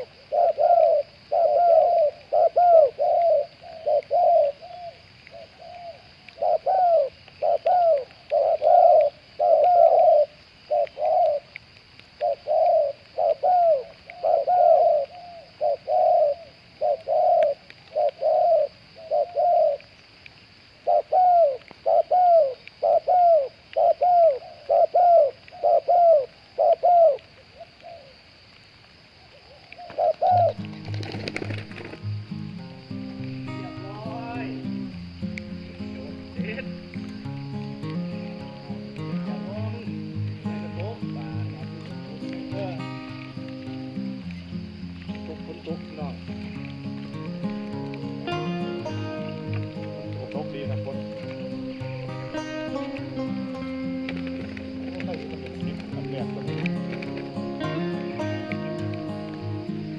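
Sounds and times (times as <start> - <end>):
doves cooing: 0.0 - 11.6, 12.2 - 20.0, 20.8 - 28.3, 29.2 - 59.9.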